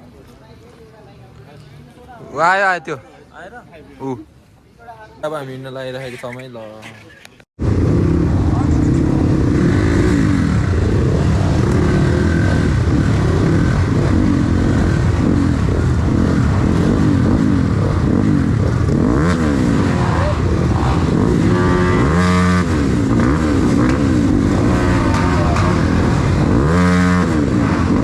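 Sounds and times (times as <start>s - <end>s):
dirt bike engines revving: 5.4s - 28.0s.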